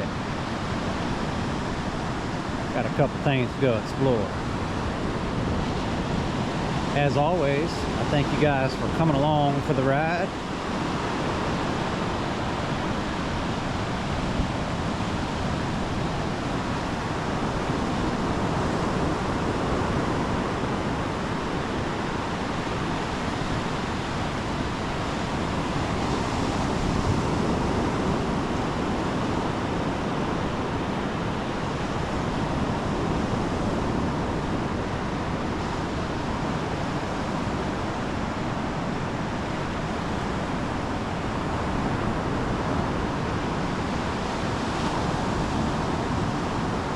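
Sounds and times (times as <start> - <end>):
ocean surf washing onto beach: 0.0 - 46.9
wind: 0.0 - 46.9.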